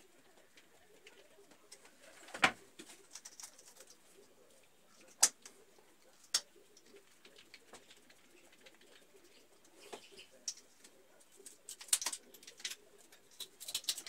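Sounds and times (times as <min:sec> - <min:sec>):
pigeon cooing: 0:00.0 - 0:14.0.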